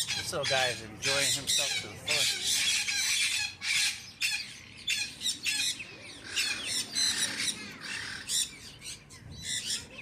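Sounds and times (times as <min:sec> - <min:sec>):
parrots squawking: 0:00.0 - 0:10.0.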